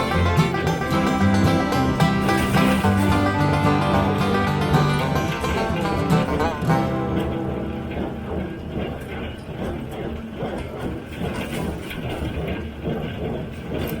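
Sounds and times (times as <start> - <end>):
tractor and baler droning: 0.0 - 12.6.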